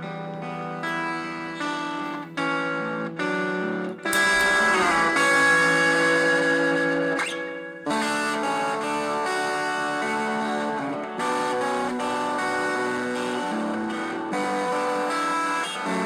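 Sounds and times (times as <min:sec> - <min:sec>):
overdriven electric guitar chords: 0:00.0 - 0:16.0.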